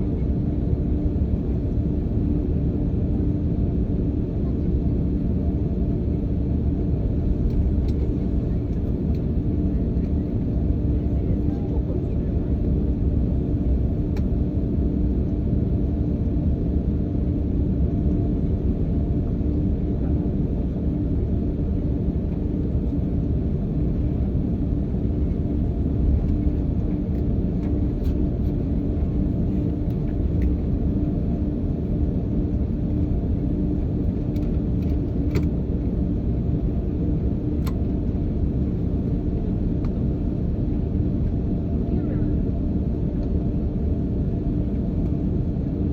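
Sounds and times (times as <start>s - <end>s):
airliner cabin rumble: 0.0s - 45.9s
constant hum tone: 0.0s - 45.9s.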